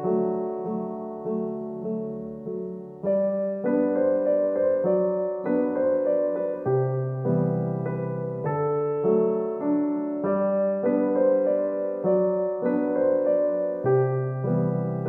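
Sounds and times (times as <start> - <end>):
calm piano music: 0.0 - 15.0.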